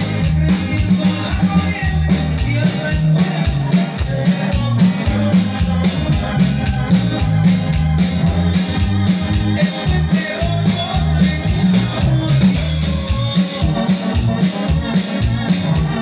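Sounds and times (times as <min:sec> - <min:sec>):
bass line: 0:00.0 - 0:16.0
drum beat: 0:00.0 - 0:16.0
live band through pa: 0:00.0 - 0:16.0.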